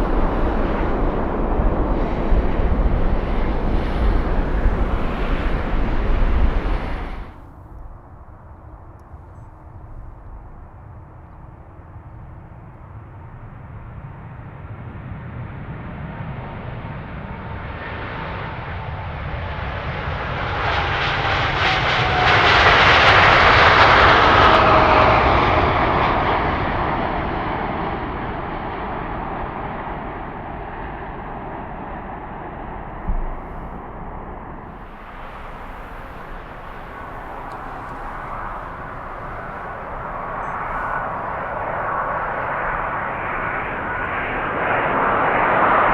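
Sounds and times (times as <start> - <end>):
jet airliner passing: 0.0 - 45.9
other aircraft engine noise: 0.0 - 45.9.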